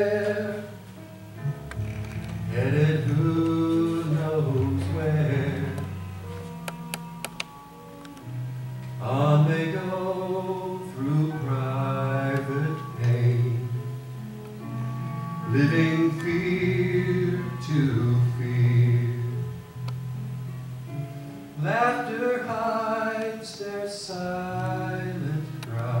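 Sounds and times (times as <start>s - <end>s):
sustained instrumental accompaniment: 0.0s - 23.3s.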